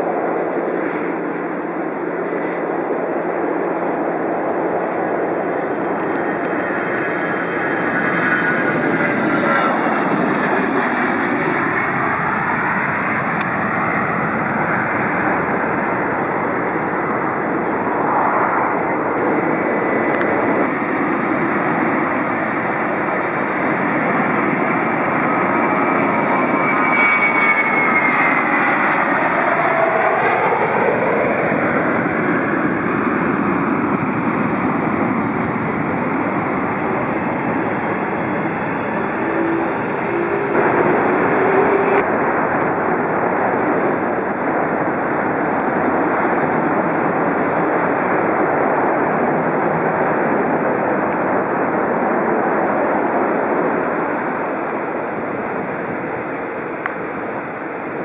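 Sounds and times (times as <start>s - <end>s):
jet engines roaring: 0.0s - 58.0s
phasing whoosh of passing aircraft: 0.0s - 58.0s.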